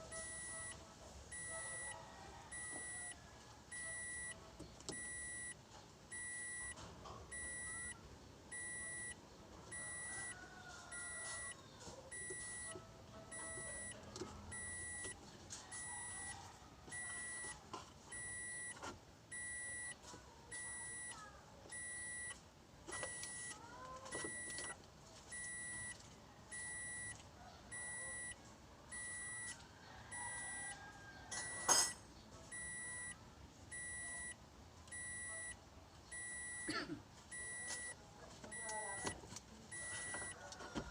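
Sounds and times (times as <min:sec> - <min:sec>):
electronic warning beep: 0:00.0 - 0:31.9, 0:32.5 - 0:36.7, 0:37.3 - 0:40.9.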